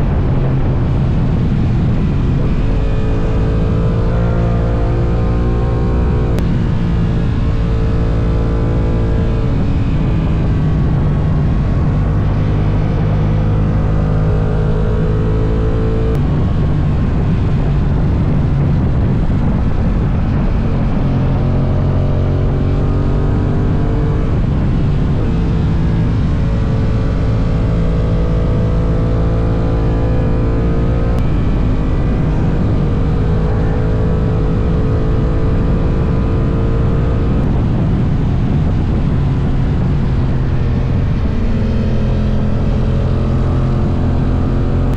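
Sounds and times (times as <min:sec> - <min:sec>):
motorcycle engine running: 0:00.0 - 0:44.9
wind and road rush: 0:00.0 - 0:44.9.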